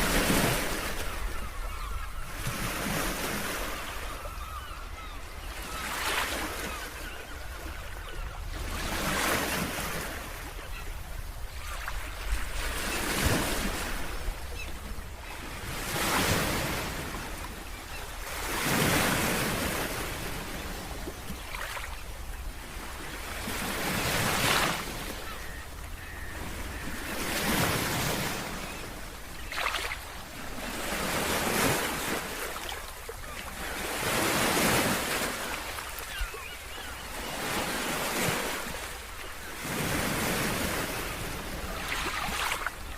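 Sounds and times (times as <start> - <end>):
ocean waves breaking on beach: 0.0 - 42.9.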